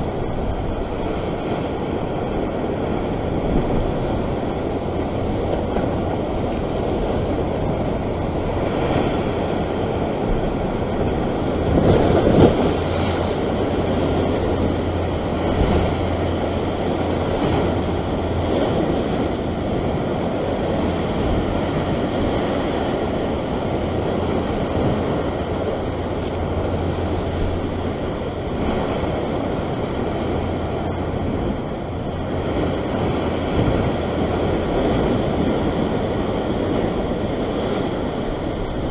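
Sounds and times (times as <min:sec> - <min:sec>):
surf breaking against rocks: 0:00.0 - 0:38.9
wind rumbling on microphone: 0:00.0 - 0:38.9.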